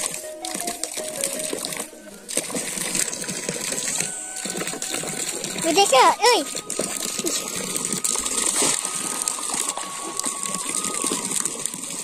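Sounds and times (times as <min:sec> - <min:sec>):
pond water sloshing and splashing: 0:00.0 - 0:12.0.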